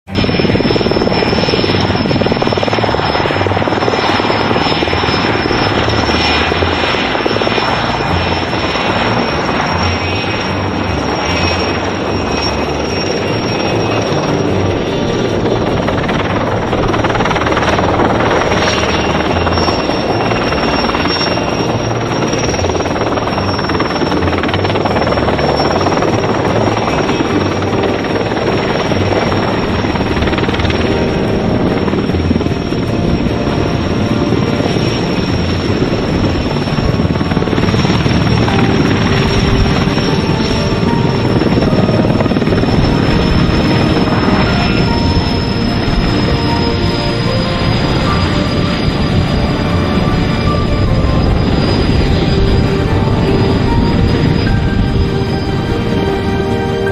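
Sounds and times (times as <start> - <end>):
helicopter rotor and engines: 0.0 - 56.9
high turbine whine: 0.0 - 56.9.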